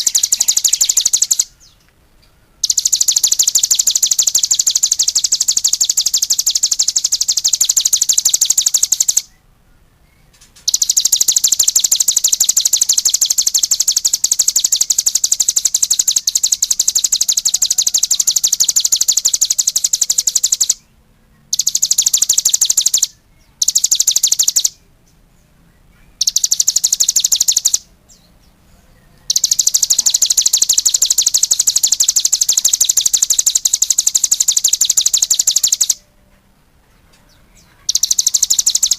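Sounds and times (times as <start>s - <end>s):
songbird trilling: 0.0s - 1.9s, 2.6s - 9.5s, 10.1s - 24.9s, 25.7s - 36.2s, 37.2s - 38.9s.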